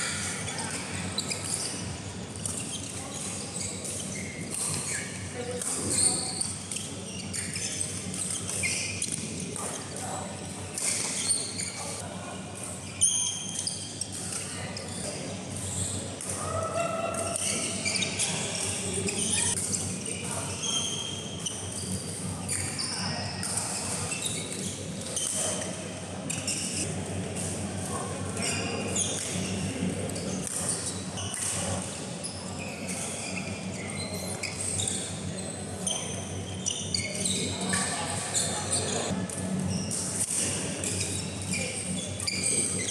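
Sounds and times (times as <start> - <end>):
shoes squeaking on court: 0.0 - 42.9.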